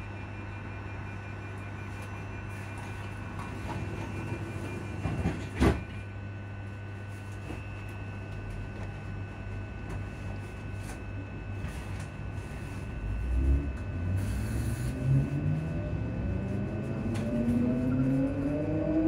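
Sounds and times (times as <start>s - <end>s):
train cooling fans humming: 0.0s - 19.0s.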